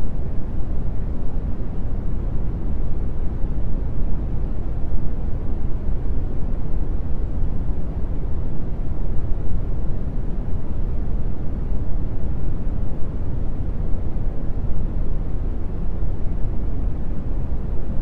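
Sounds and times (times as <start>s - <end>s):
brown noise rumbling hiss: 0.0s - 18.0s.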